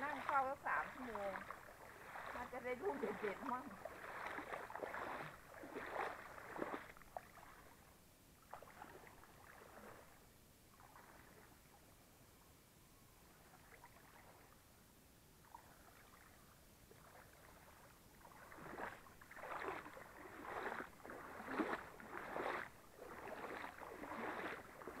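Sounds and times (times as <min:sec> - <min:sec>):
footsteps splashing in river: 0:00.0 - 0:11.8, 0:13.2 - 0:14.6, 0:15.4 - 0:25.0.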